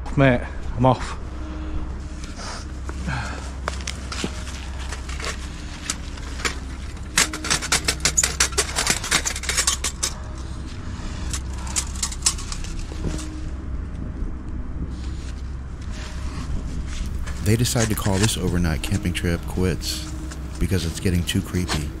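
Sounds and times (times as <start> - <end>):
low rumble: 0.0 - 22.0
crackling rustles and clicks: 2.1 - 22.0.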